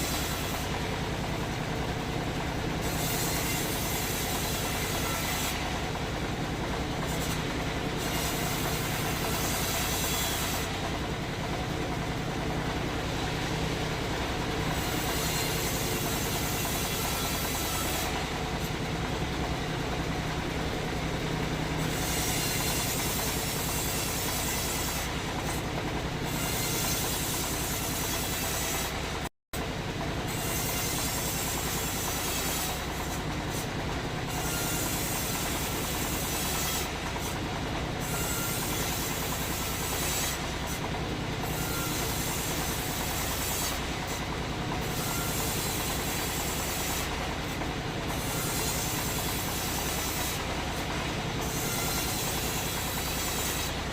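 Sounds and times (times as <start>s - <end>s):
sawmill machinery humming: 0.0s - 53.9s.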